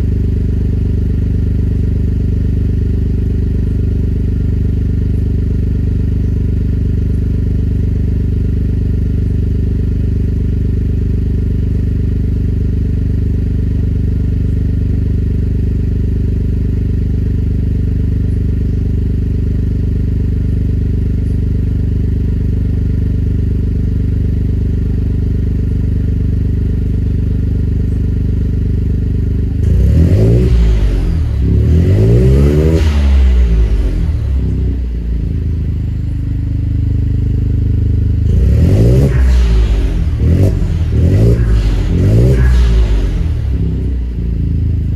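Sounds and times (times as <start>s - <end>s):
engine idling and revving: 0.0s - 44.9s.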